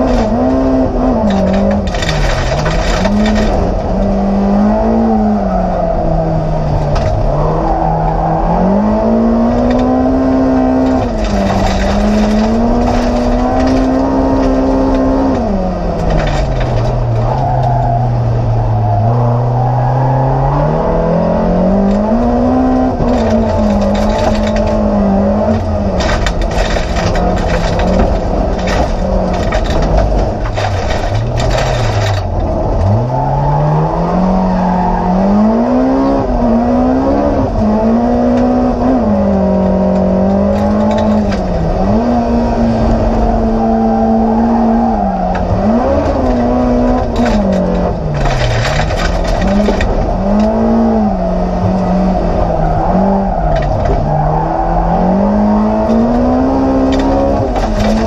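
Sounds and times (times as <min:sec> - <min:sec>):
gravel rattling against car: 0:00.0 - 0:58.0
race car engine revving: 0:00.0 - 0:58.0.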